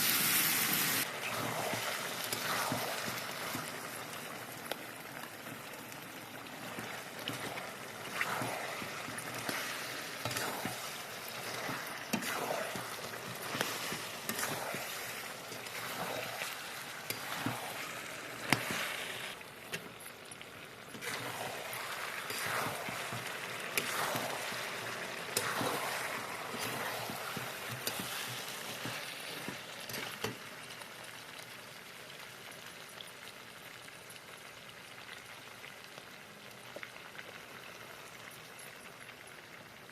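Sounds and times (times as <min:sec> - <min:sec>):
food sizzling in hot oil: 0:00.0 - 0:39.7.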